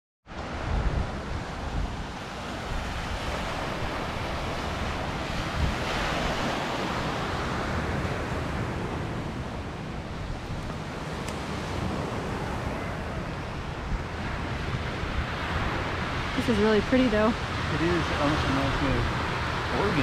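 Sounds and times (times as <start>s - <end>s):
wind buffeting microphone: 0.3s - 20.0s.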